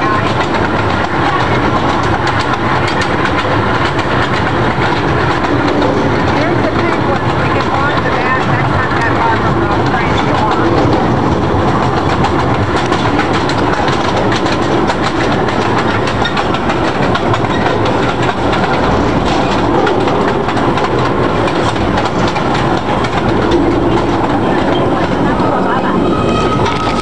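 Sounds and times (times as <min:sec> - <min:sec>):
train running rumble: 0:00.0 - 0:27.0
train wheels clattering over rails: 0:00.0 - 0:27.0.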